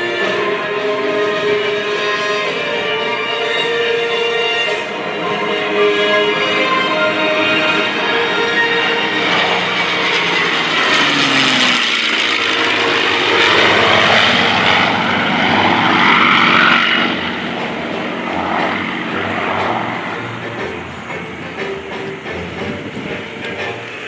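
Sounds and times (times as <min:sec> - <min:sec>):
propeller planes passing overhead: 0:00.0 - 0:24.0.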